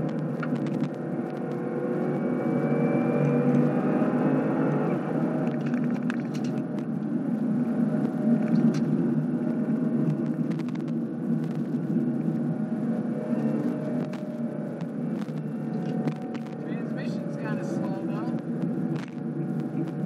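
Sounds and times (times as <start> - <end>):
car engine at full throttle: 0.0 - 20.0
heavy steady rumble: 0.0 - 20.0.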